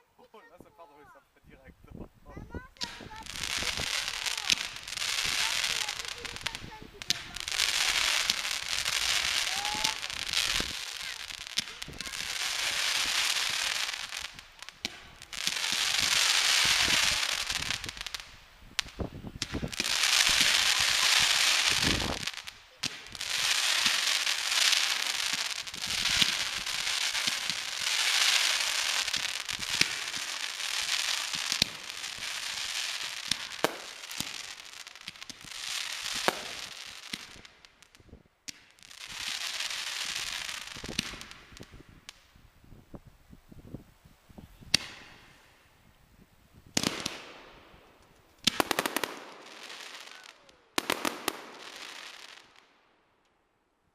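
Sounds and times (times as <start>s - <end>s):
fireworks crackling with sharp bangs: 2.0s - 53.4s.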